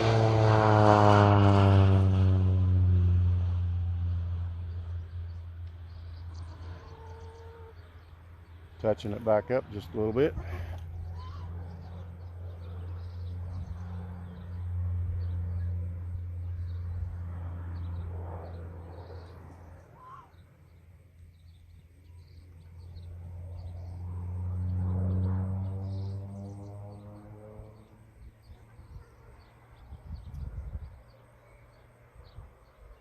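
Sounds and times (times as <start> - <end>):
airplane engine droning: 0.0 - 33.0
birds chirping: 4.4 - 33.0.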